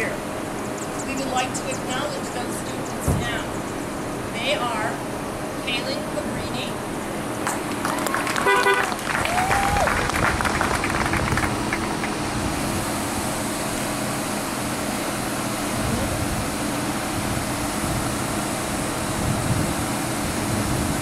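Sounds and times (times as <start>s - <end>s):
car engines idling: 0.0s - 21.0s
outdoor background noise: 0.0s - 21.0s.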